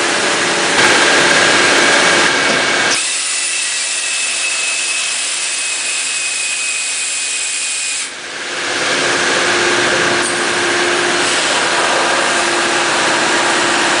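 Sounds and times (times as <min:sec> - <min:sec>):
steady machine hum: 0:00.0 - 0:06.0, 0:08.1 - 0:14.0.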